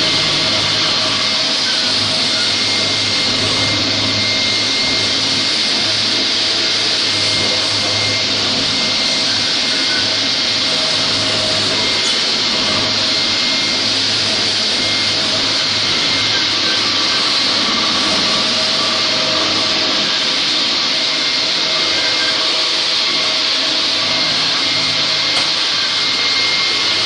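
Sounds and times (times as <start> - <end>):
dust extractor hissing: 0.0 - 27.0
floor grinder running on concrete: 0.0 - 27.0.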